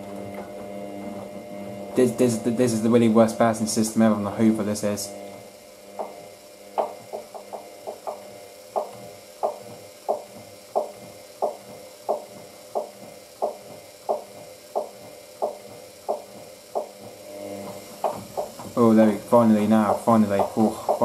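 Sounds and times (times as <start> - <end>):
washing machine drum turning: 0.0 - 21.0.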